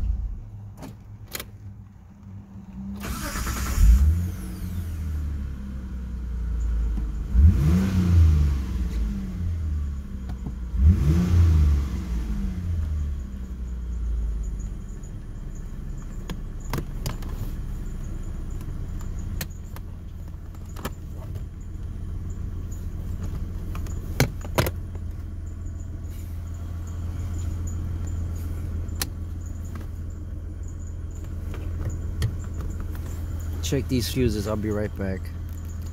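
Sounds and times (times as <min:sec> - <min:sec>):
car engine revving and idling: 0:00.0 - 0:35.9.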